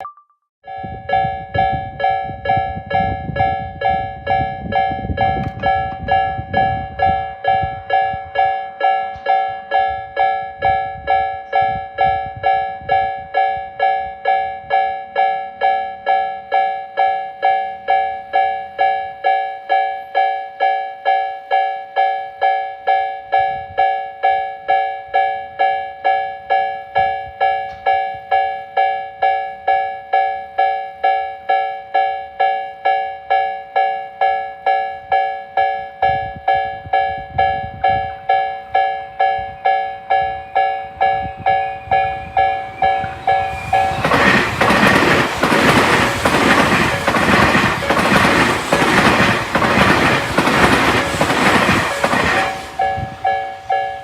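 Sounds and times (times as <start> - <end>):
level crossing warning bells: 0.6 - 54.0.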